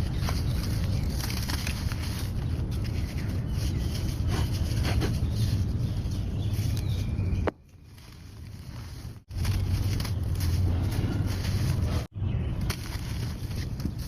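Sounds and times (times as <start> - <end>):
dry sand and mud crumbling: 0.0 - 14.0.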